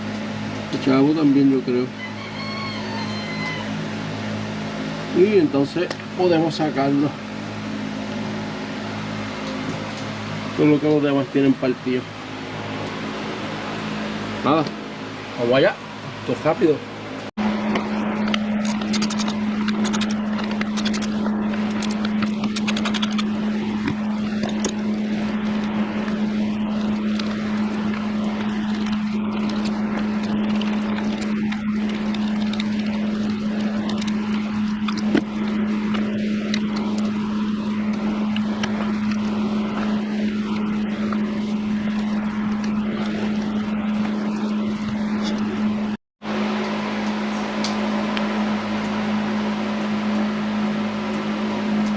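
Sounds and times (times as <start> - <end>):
machine drone with low hum: 0.0 - 51.9.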